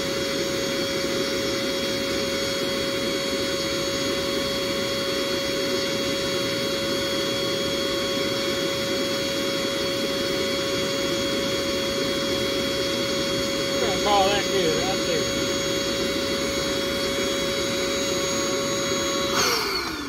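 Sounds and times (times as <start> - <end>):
electric air pump whirring: 0.0 - 20.0.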